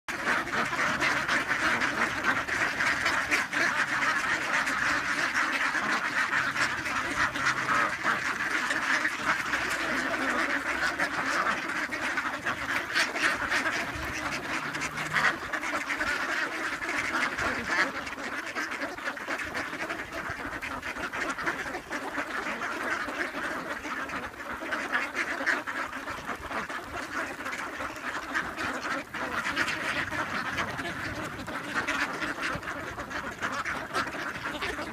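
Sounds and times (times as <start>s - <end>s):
ducks quacking: 0.1s - 34.9s.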